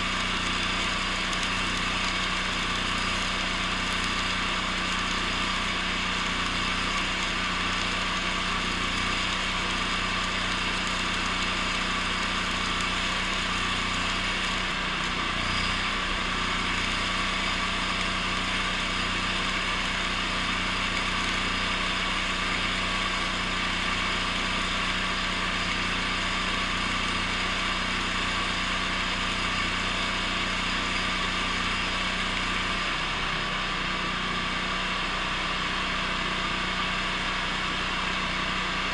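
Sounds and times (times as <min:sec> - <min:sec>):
welding arc hissing and crackling: 0:00.0 - 0:33.8
welding machine hum: 0:00.0 - 0:38.9.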